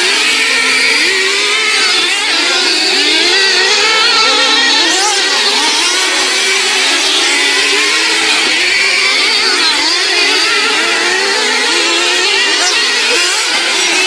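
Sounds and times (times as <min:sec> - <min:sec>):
racing engines revving: 0:00.0 - 0:14.0.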